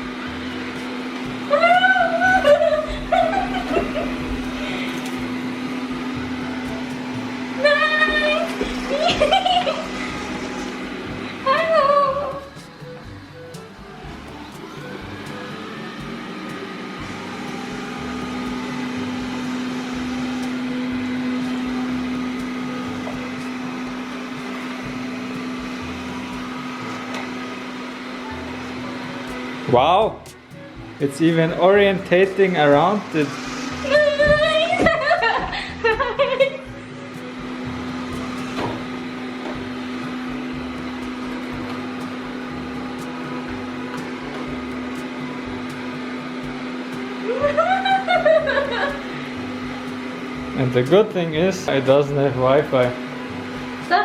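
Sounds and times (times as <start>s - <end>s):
robot vacuum motor hum: 0.0s - 54.0s.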